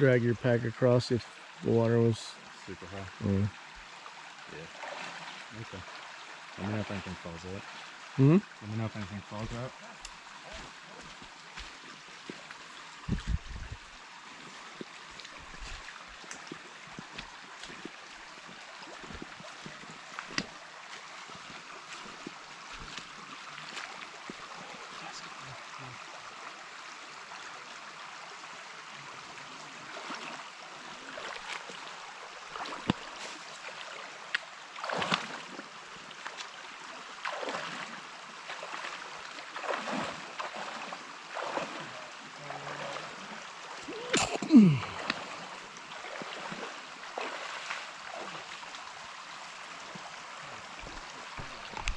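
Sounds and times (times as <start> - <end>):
people wading through water: 0.0 - 26.3, 28.9 - 51.9
creek flowing over rocks: 0.0 - 51.9.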